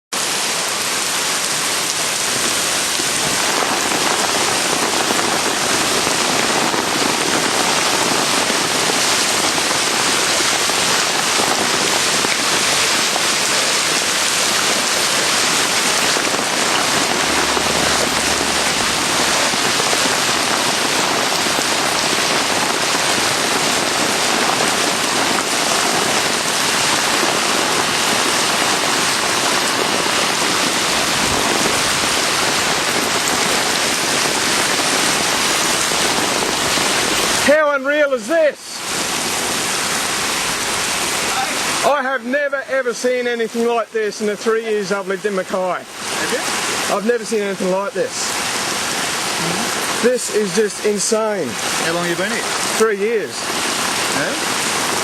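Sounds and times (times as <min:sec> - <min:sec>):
torrential rain pouring: 0:00.0 - 0:55.0.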